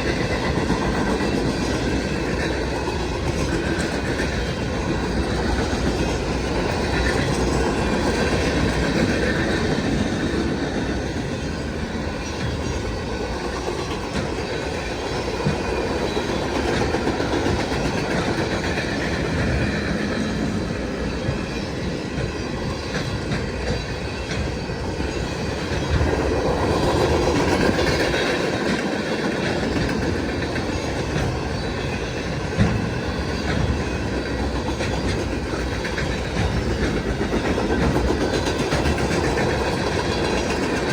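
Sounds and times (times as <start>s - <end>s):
wheels clacking over rail joints: 0.0s - 40.9s.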